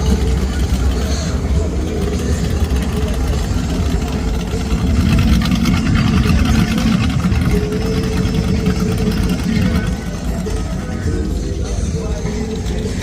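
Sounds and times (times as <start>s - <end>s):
vehicle engines idling in traffic: 0.0s - 13.0s.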